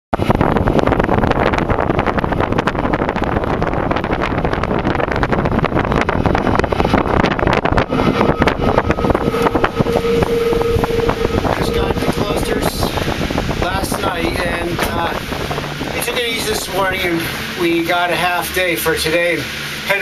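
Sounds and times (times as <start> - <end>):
wind buffeting microphone: 0.1 - 20.0
steady high whine: 0.2 - 20.0
train wheels rumbling on rails: 0.2 - 20.0.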